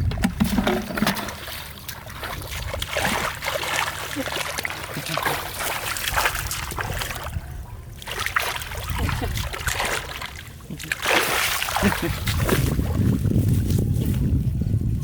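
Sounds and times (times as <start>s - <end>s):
water splashing and trickling: 0.0s - 14.4s.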